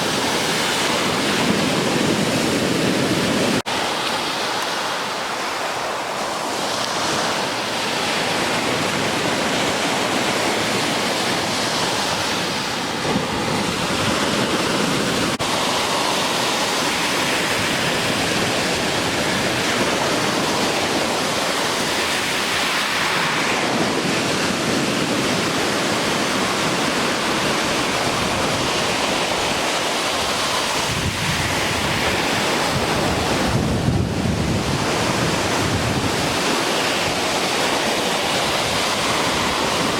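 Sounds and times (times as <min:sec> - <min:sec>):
wind buffeting microphone: 0:00.0 - 0:03.7, 0:06.4 - 0:39.9
ocean waves breaking: 0:00.0 - 0:39.9.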